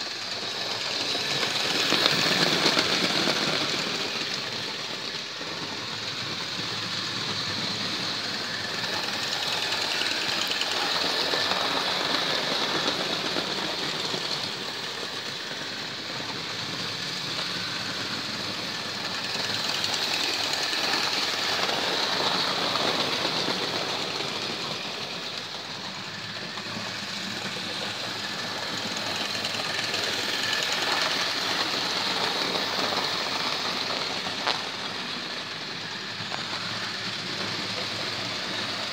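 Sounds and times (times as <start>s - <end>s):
model train motor whirr: 0.0s - 38.9s
wheels clattering on rails: 0.0s - 38.9s.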